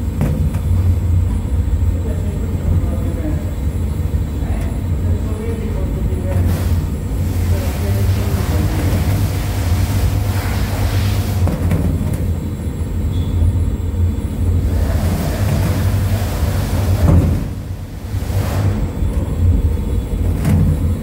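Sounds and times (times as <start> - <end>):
machine drive rumble: 0.0 - 21.0.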